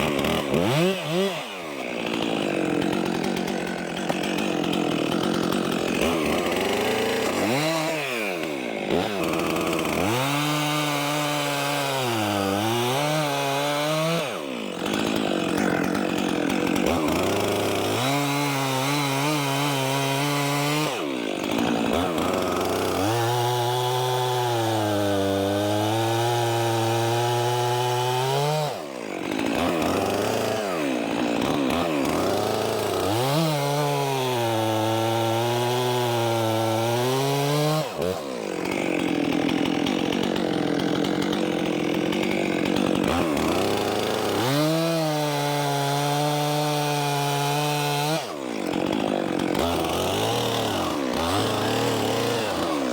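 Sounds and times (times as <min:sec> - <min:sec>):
chainsaw cutting logs: 0:00.0 - 0:52.9.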